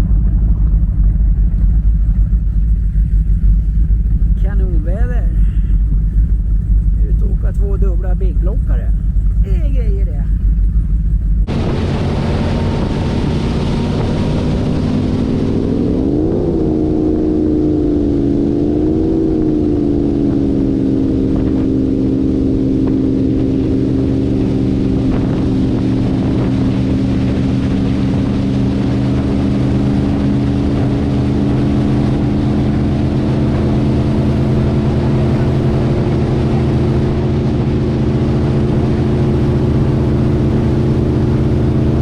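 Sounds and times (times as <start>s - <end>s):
powerboat engines running: 0.0s - 42.0s.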